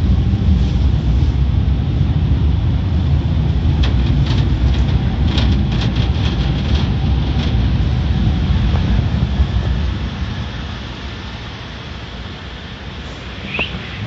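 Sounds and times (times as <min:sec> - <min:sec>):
car wash equipment rumbling: 0:00.0 - 0:14.0.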